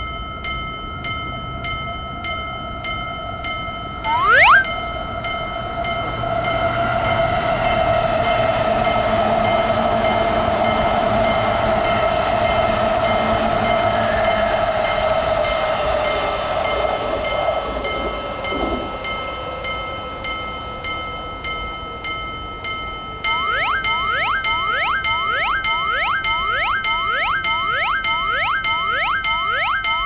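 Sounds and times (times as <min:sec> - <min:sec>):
railroad crossing bell ringing: 0:00.0 - 0:30.0
approaching train running: 0:05.0 - 0:29.4.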